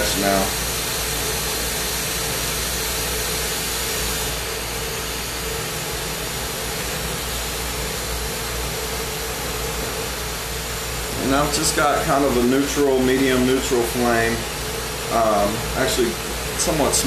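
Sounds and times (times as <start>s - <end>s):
steady hum: 0.0s - 17.0s
torch flame hissing: 0.0s - 17.0s.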